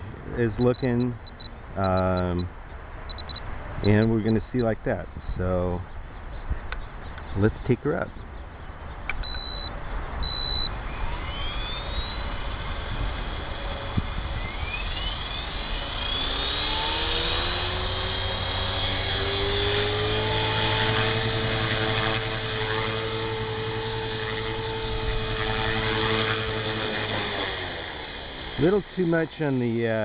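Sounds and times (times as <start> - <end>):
rc helicopter motor whine: 0.0 - 2.5, 5.4 - 30.0
rotor hum: 0.0 - 30.0.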